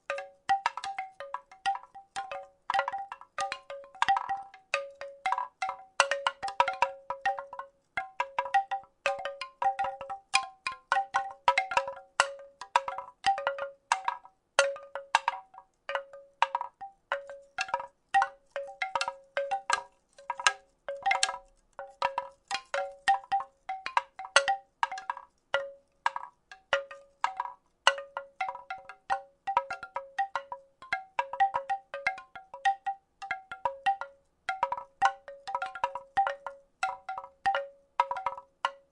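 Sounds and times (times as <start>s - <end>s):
wooden rattle clacking: 0.0s - 38.9s.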